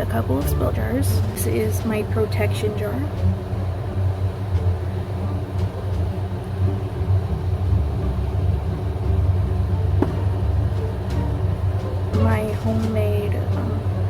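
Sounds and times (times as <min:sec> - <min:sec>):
low rumbling hum: 0:00.0 - 0:14.0.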